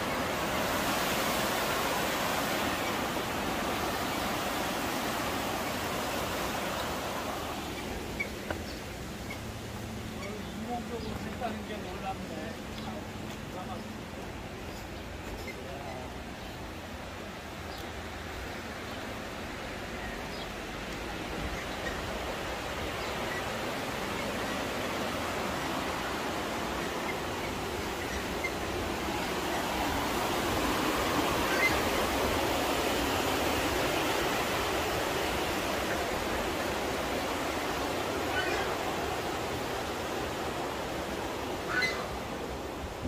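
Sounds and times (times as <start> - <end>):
steady outdoor rushing noise: 0.0 - 43.0.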